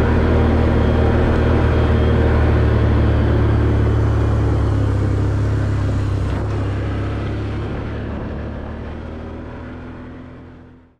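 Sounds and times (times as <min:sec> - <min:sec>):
atv engine running: 0:00.0 - 0:10.9.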